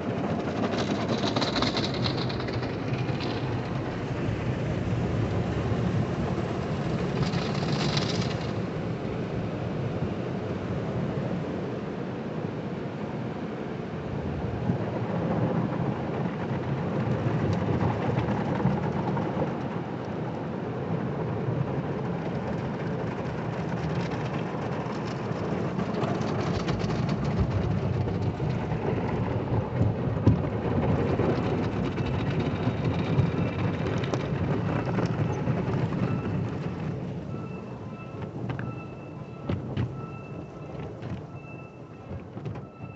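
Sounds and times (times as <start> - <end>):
water jets pelting a car: 0.0 - 10.3, 14.4 - 42.9.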